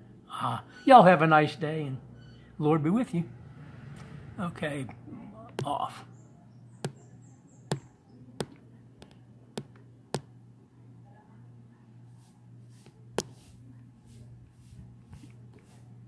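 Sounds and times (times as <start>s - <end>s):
steady low hum: 1.8s - 16.0s.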